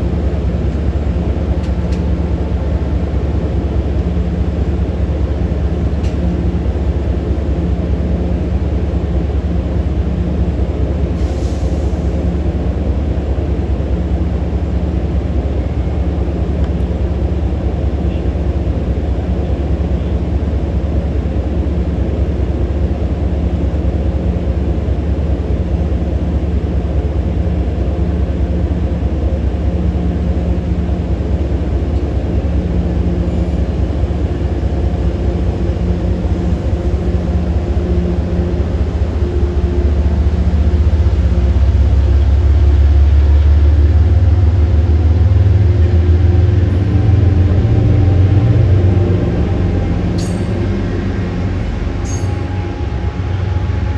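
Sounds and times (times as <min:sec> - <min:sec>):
diesel locomotive engine rumbling: 0:00.0 - 0:53.9.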